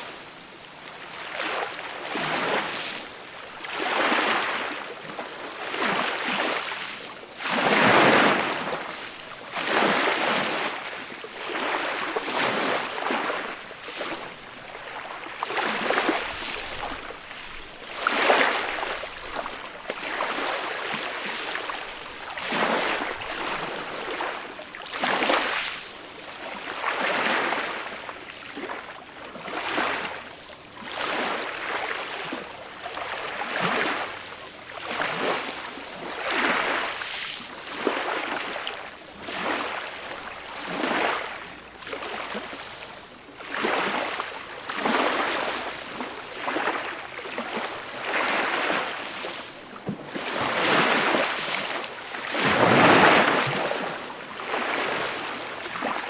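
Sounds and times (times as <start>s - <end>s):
gentle waves washing onto beach: 0.0s - 56.0s.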